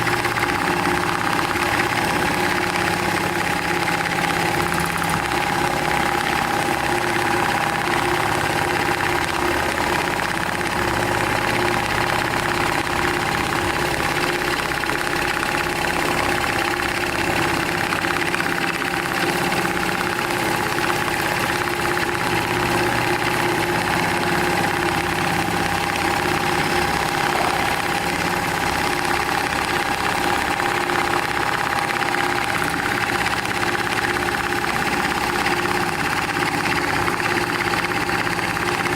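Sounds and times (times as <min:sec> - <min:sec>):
constant whine: 0:00.0 - 0:38.9
sewing machine running: 0:00.0 - 0:38.9.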